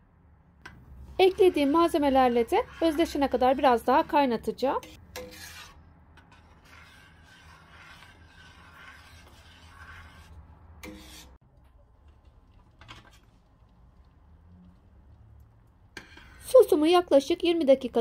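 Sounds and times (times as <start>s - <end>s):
spoon stirring sauce in pot: 0.7s - 16.6s.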